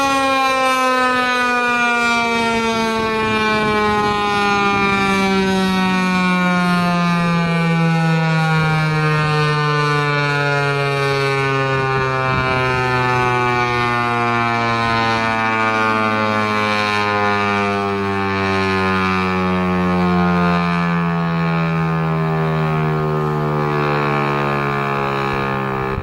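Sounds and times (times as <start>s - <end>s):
warning siren winding down: 0.0s - 26.0s.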